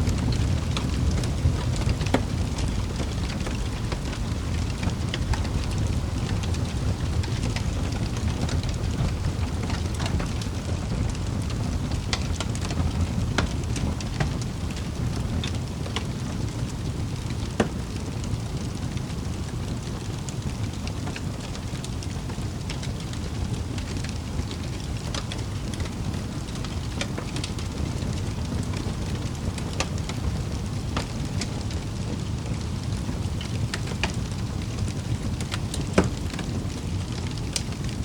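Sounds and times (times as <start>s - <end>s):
wood fire crackling in fireplace: 0.0s - 38.0s.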